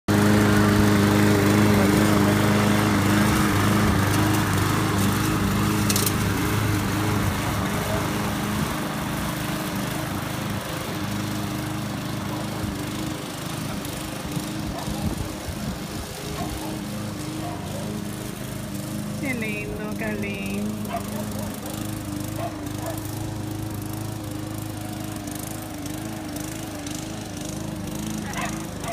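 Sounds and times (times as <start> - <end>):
lawn mower cutting grass: 0.1 - 28.9.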